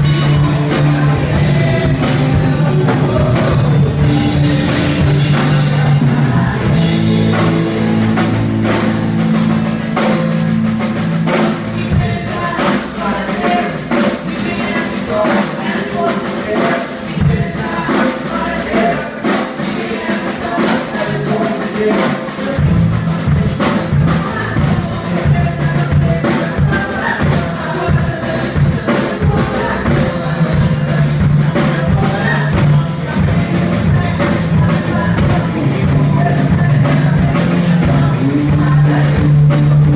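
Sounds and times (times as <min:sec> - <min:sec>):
bass guitar: 0:00.0 - 0:39.9
drum kit: 0:00.0 - 0:39.9
worship band playing: 0:00.0 - 0:39.9.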